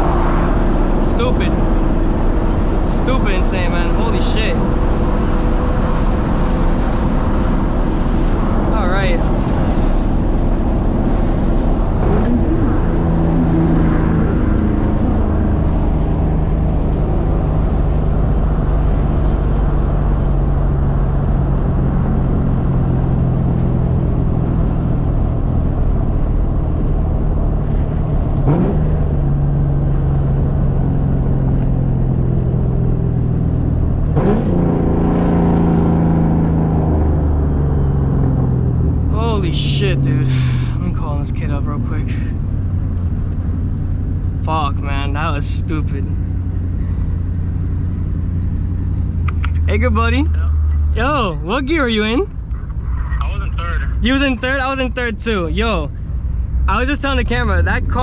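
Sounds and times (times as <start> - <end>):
car exhaust drone: 0.0 - 58.0.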